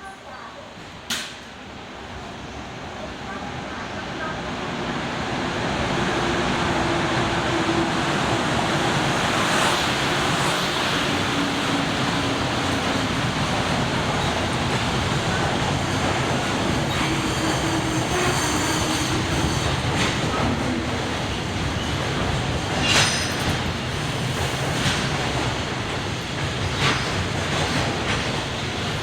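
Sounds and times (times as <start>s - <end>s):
train wheels on rails: 4.2s - 29.0s.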